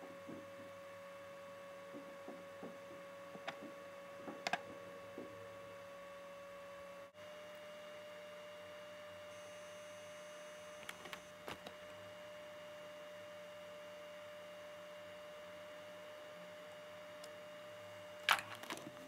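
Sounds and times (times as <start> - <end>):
faint steady pure tone: 0.0 - 18.3
low hum: 0.0 - 18.7.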